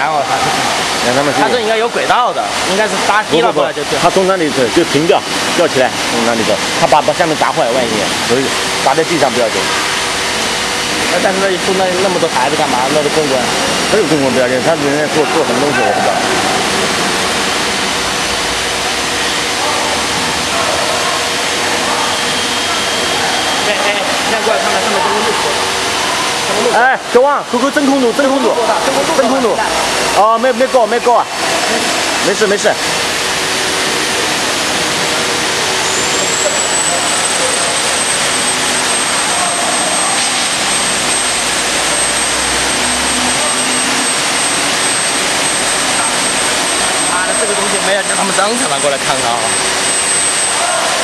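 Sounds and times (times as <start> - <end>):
high whine: 0.0 - 51.0
vacuum pump running: 0.0 - 51.0.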